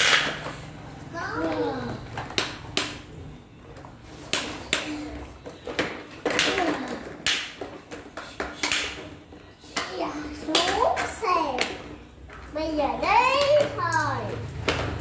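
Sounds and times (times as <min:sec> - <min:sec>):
plastic toys clacking on tile floor: 0:00.0 - 0:15.0.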